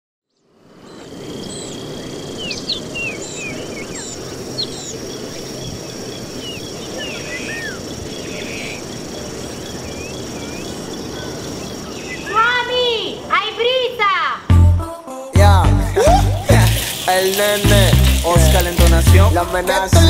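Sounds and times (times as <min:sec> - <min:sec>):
birds chirping: 0:00.3 - 0:14.0, 0:15.5 - 0:20.0.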